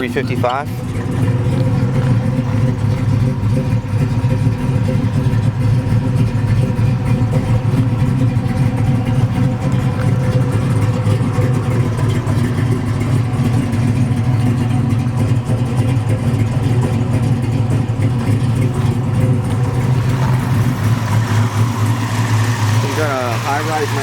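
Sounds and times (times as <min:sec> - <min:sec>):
car engine lumpy idle: 0:00.0 - 0:24.0.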